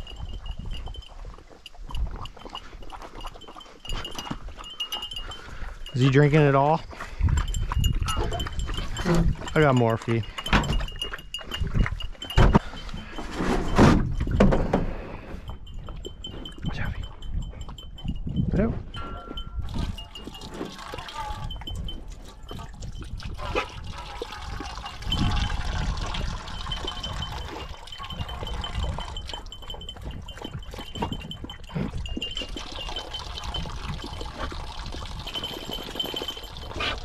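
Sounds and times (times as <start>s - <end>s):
dog lapping water: 0.0s - 13.2s, 19.6s - 37.0s
dog collar bell tinkling: 0.0s - 23.6s, 24.5s - 37.0s.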